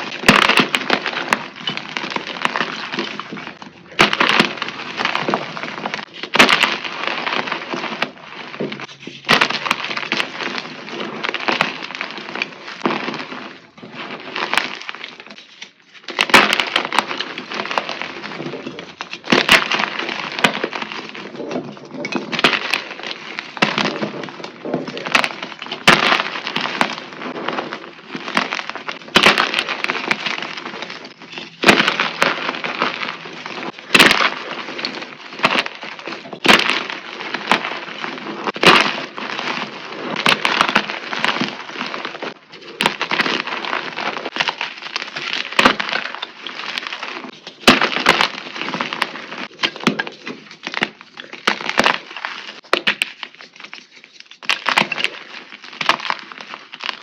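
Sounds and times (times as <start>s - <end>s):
brittle material crunching: 0.0s - 57.0s.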